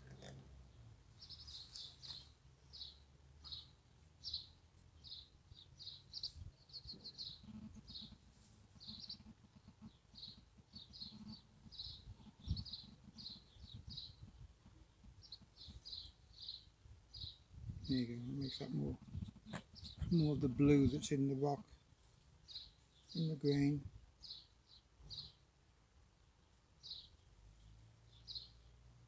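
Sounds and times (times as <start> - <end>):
small bird chirping faintly: 0.0 - 29.0.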